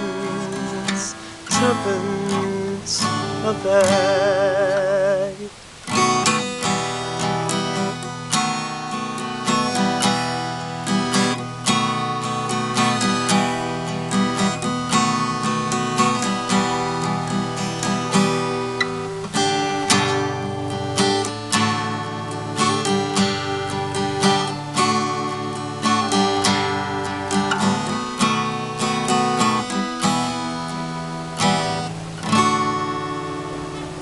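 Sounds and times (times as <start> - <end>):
acoustic guitar strumming and picking: 0.0 - 34.0.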